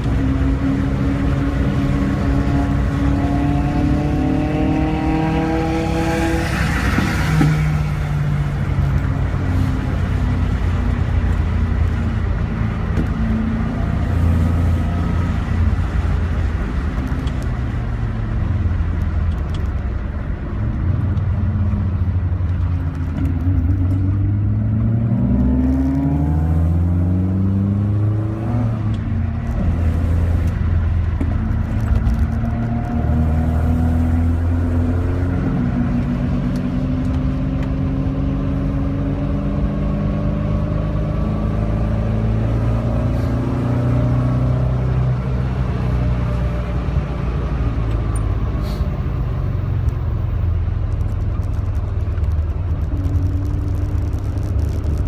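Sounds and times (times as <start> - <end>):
car engine revving: 0.0 - 55.0
wind and road noise: 0.0 - 55.0.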